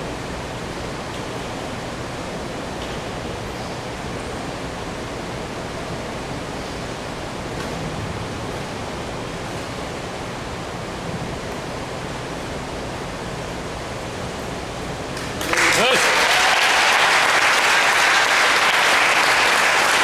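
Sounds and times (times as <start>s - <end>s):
room noise hiss: 0.0s - 20.0s.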